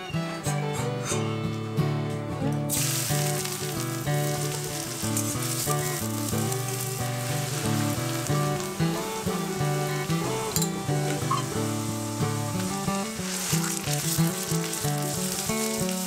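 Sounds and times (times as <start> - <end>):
background music: 0.0 - 16.0
onions sizzling in hot oil: 2.7 - 16.0.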